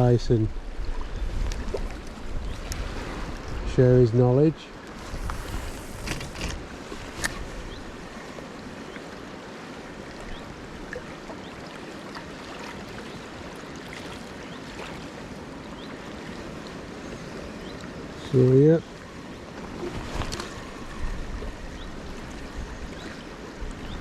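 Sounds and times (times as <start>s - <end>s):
river water flowing: 4.7s - 24.0s.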